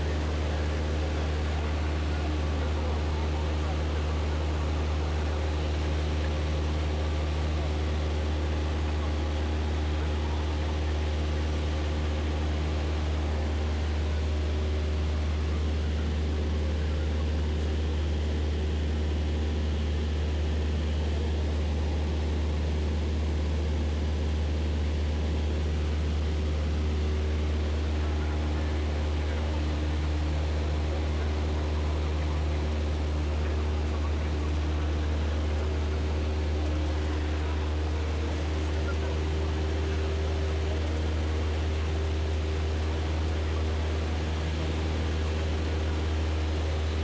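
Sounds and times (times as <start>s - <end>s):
airplane engine droning in cabin: 0.0s - 47.0s.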